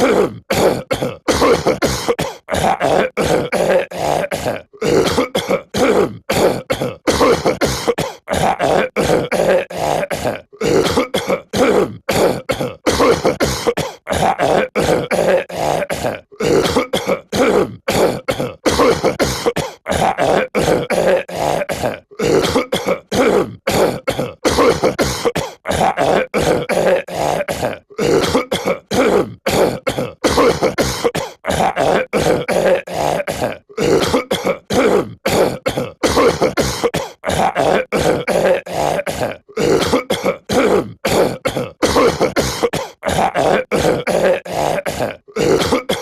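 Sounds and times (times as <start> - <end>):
cartoon man clearing throat and coughing: 0.0 - 46.0.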